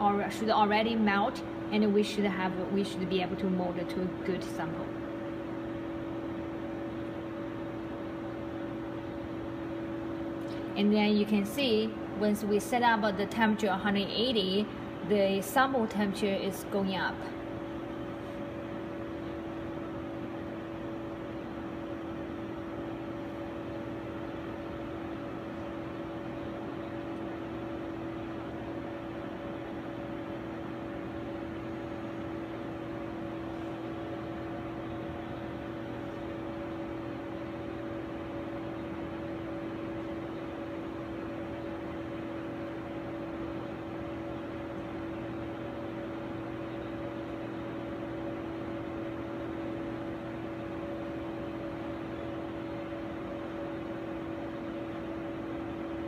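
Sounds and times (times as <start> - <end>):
equipment humming with low tones: 0.0 - 56.0
fan-like hiss: 0.0 - 56.0.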